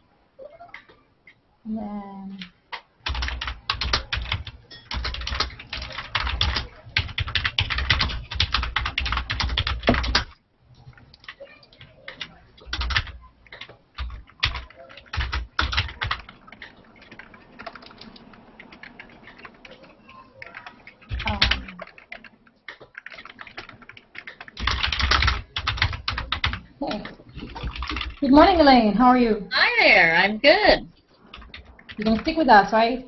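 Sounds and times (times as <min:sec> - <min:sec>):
keyboard typing: 0:00.4 - 0:01.4, 0:02.3 - 0:28.9, 0:31.0 - 0:32.8.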